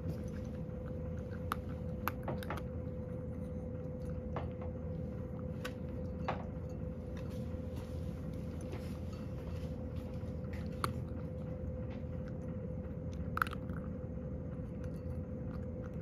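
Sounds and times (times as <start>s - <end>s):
cat crunching dry kibble: 0.0s - 16.0s
low background hum: 0.0s - 16.0s.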